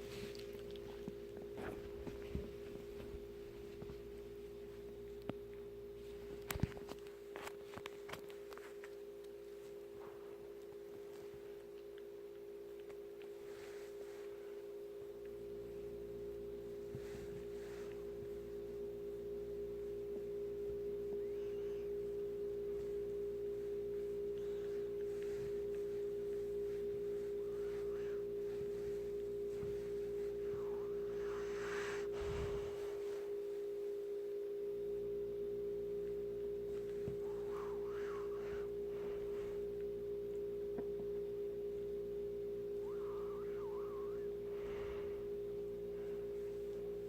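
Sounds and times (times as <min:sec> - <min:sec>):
steady single-pitched hum: 0:00.0 - 0:47.0.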